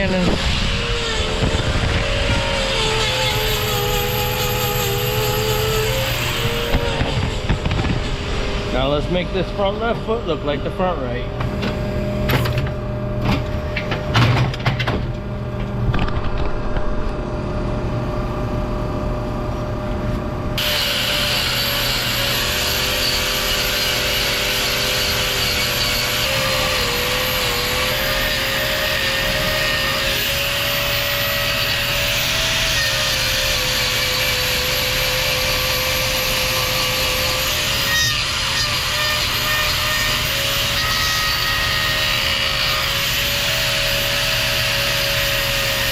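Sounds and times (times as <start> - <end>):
angle grinder trimming hoof: 0.0 - 14.8, 20.6 - 45.9.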